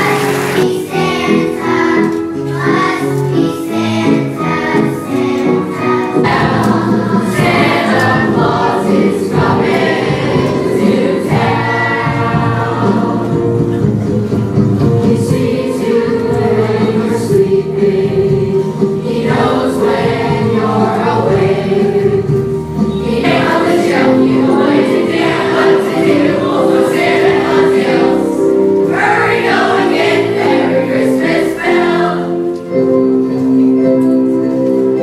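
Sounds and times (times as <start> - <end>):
choir singing: 0.0 - 32.9
sustained instrumental accompaniment: 0.0 - 35.0.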